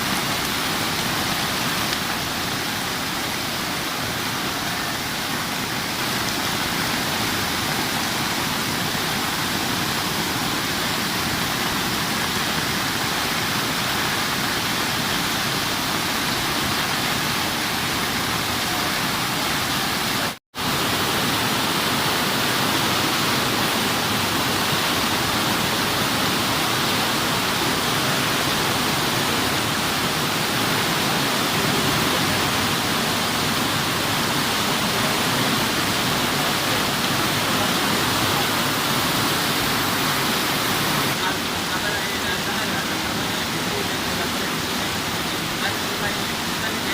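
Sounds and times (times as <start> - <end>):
heavy rain downpour: 0.0 - 46.9.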